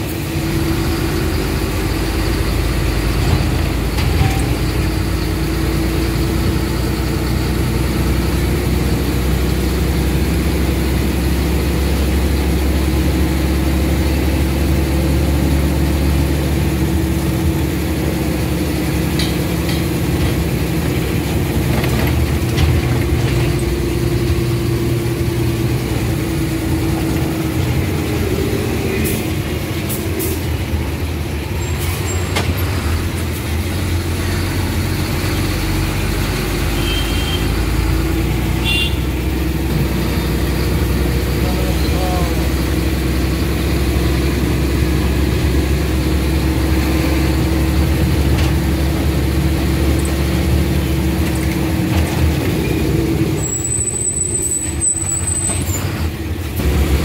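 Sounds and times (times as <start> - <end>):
road noise: 0.0 - 57.0
vehicle engine running: 0.0 - 57.0.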